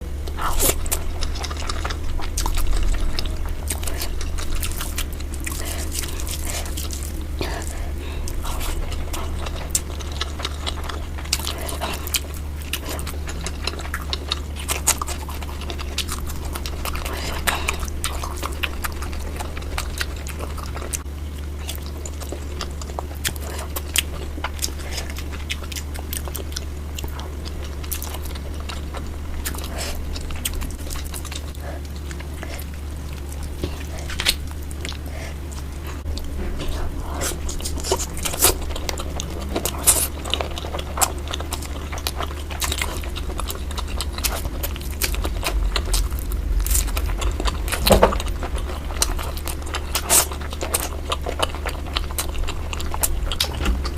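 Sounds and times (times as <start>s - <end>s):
chewing and biting meat: 0.0s - 53.9s
steady low hum: 0.0s - 53.9s.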